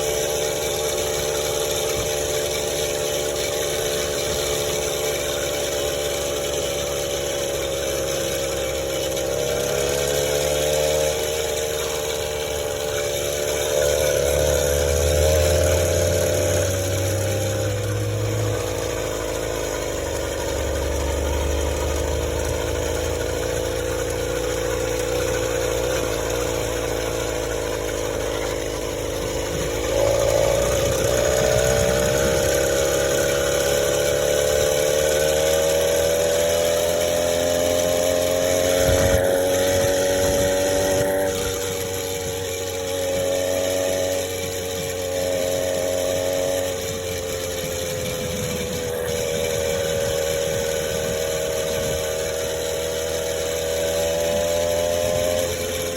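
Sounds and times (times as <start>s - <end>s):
small motorbike engine running: 0.0s - 55.9s.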